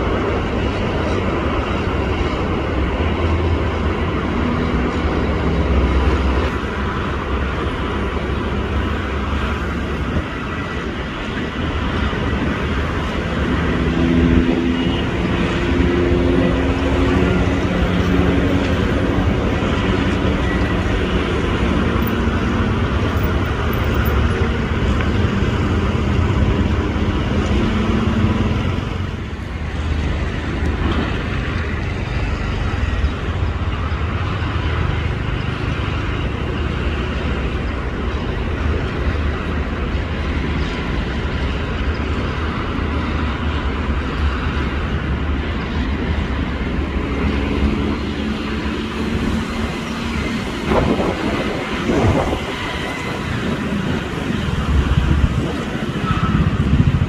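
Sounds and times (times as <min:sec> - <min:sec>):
heavy vehicle engine noise: 0:00.0 - 0:57.0.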